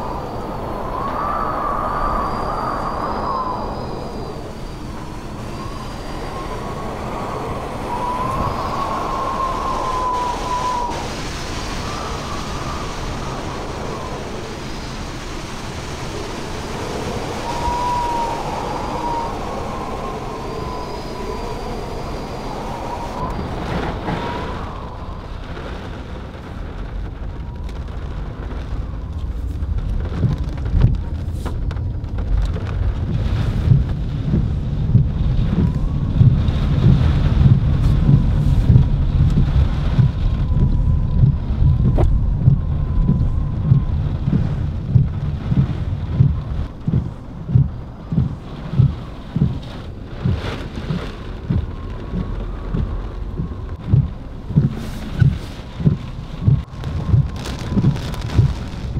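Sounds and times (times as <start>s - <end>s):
wavering wind whistle: 0.0s - 31.6s, 33.0s - 58.9s
rain: 0.0s - 58.9s
wind buffeting microphone: 0.0s - 58.9s
wind howling: 0.0s - 58.9s.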